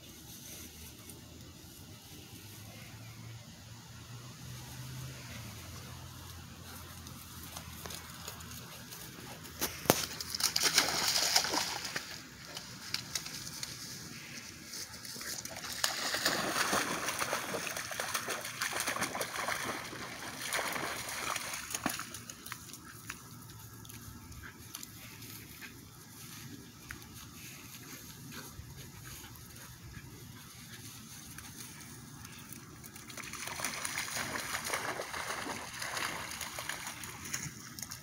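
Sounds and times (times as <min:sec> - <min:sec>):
puppy splashing through water: 0:04.7 - 0:14.0, 0:15.0 - 0:27.6, 0:28.2 - 0:38.0.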